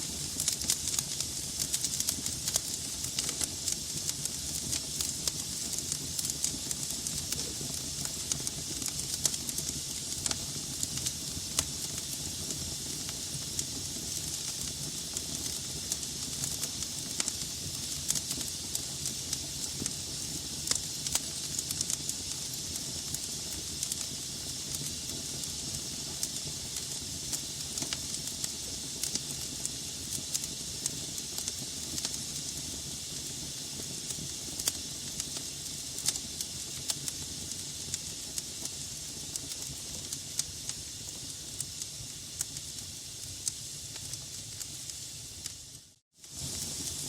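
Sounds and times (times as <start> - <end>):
wood logs crackling in fireplace: 0.0 - 47.0.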